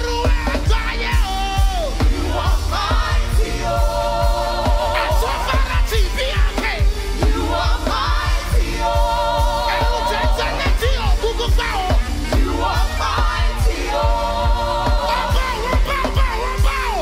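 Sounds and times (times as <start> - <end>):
band playing worship music: 0.0 - 17.0
steady drum beat: 0.0 - 17.0.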